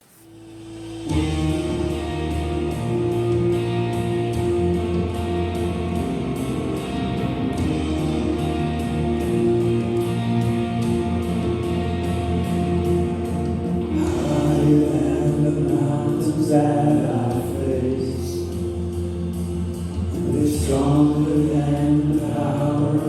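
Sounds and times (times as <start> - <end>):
guitar: 0.0 - 23.0
band playing instrumental song: 1.0 - 23.0.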